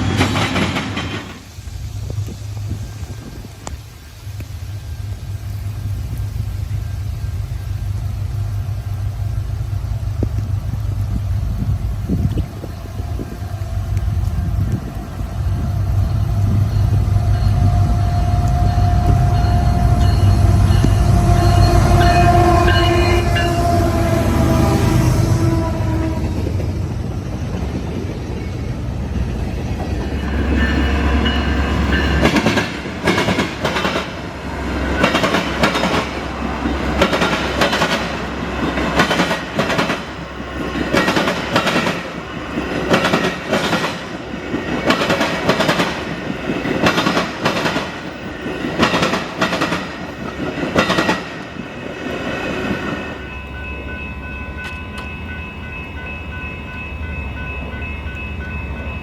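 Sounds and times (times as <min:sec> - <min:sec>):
train wheels clickety-clack: 0:00.0 - 0:03.8, 0:08.8 - 0:53.2
train rumbling past: 0:00.0 - 0:59.0.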